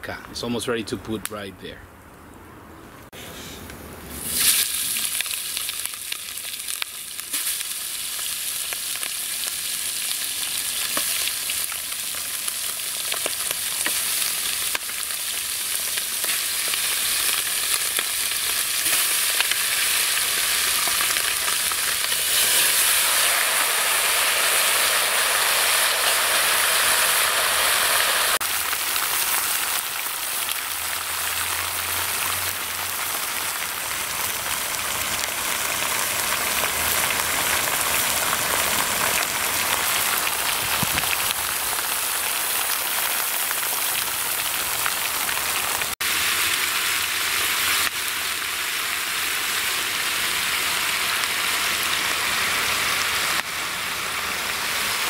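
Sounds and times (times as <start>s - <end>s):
meat sizzling in hot oil: 4.2s - 55.0s.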